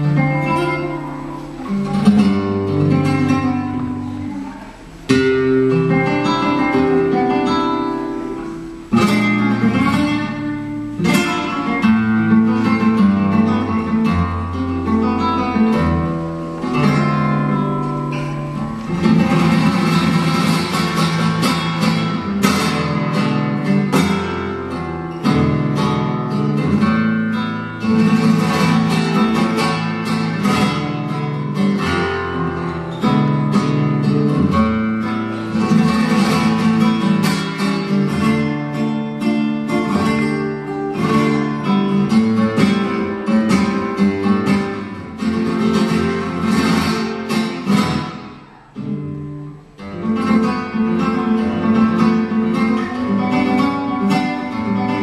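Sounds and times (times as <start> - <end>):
flamenco guitar playing: 0.0 - 55.0.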